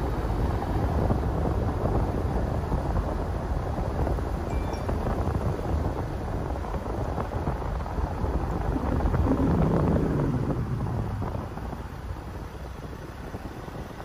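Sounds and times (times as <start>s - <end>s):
car road and engine rumble: 0.0s - 14.0s
wind buffeting microphone: 0.0s - 14.0s.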